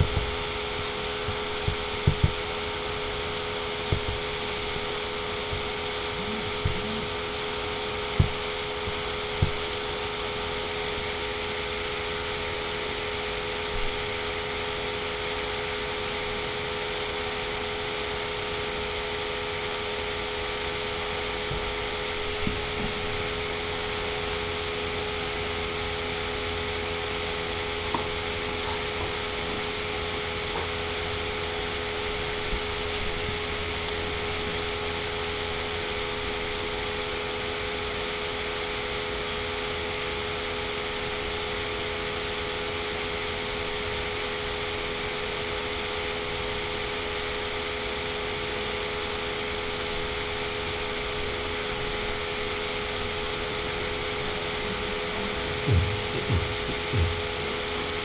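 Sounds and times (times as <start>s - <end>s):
electrical hum and hiss: 0.0s - 58.0s.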